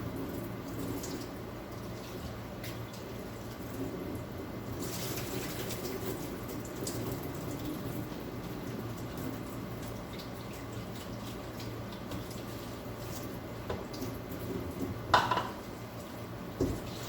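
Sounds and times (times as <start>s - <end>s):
liquid heating with low hiss: 0.0s - 17.0s.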